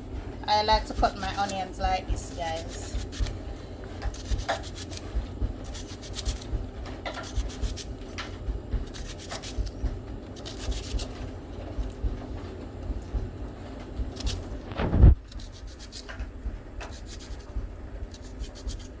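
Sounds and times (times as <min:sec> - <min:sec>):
knife cutting onion: 0:00.7 - 0:12.1, 0:14.0 - 0:19.0.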